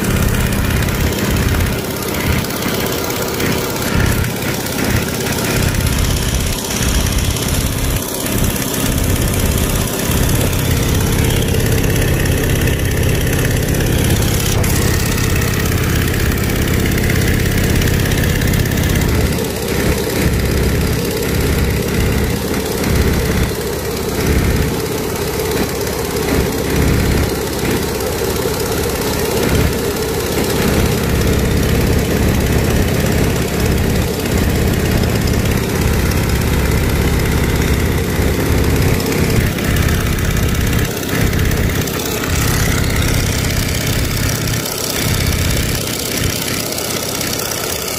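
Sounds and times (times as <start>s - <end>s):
biplane engine and propeller: 0.0s - 47.9s.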